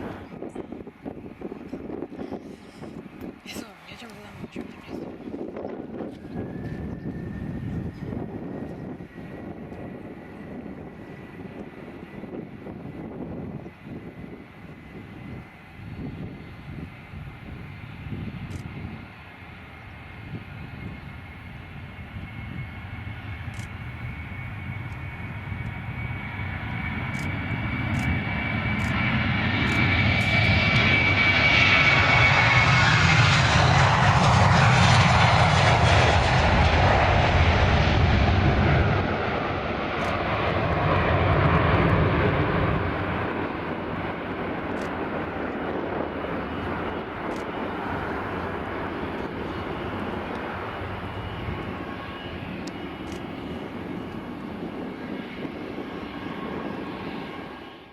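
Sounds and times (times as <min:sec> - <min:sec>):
high engine whine: 0:00.0 - 0:57.9
jet engines on take-off: 0:00.0 - 0:57.9.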